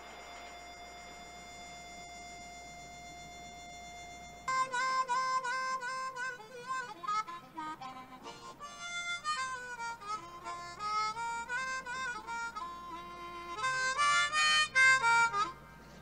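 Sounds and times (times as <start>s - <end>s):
harmonica playing slow melody: 0.0s - 16.0s.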